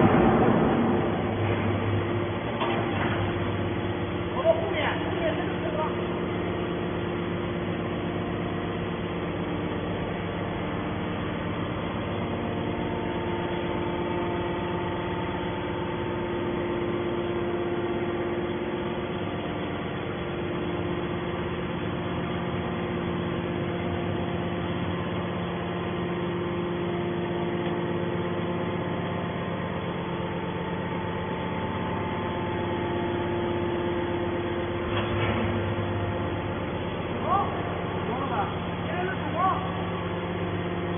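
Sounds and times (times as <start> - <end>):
baler machine hum: 0.0 - 40.9.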